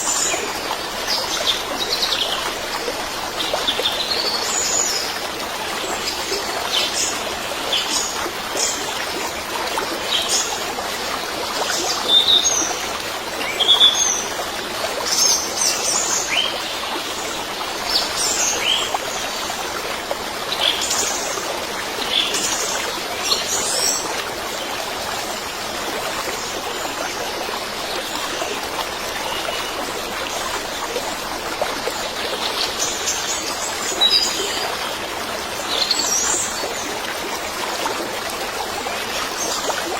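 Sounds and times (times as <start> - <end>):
trickling stream: 0.0 - 39.9.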